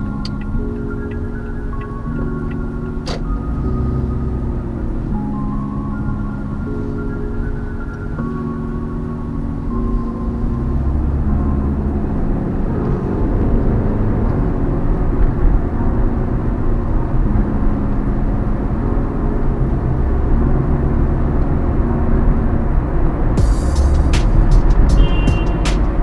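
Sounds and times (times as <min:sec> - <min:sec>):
road noise: 0:00.0 - 0:05.2, 0:09.4 - 0:26.0.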